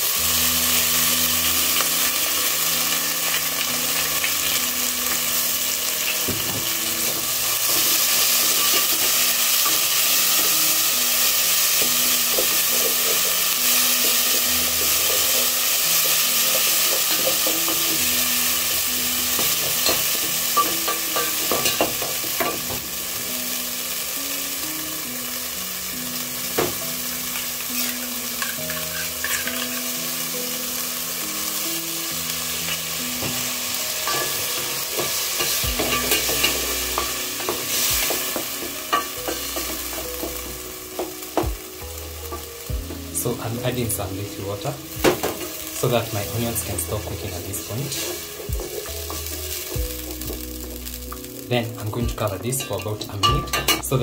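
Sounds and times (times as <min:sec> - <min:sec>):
paste sizzling in hot oil: 0:00.0 - 0:54.0.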